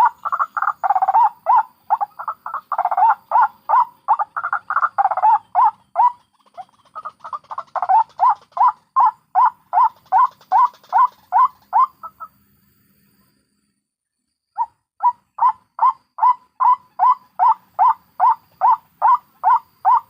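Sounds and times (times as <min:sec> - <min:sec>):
waterhen harsh repeated calls: 0:00.0 - 0:12.3, 0:14.6 - 0:20.0.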